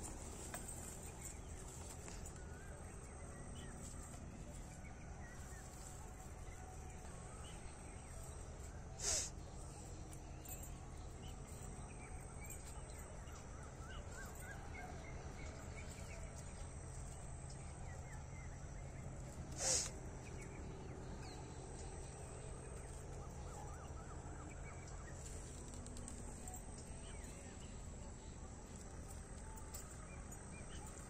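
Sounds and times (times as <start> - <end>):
faint low hum: 0.0 - 31.0
small birds chirping: 0.0 - 31.0.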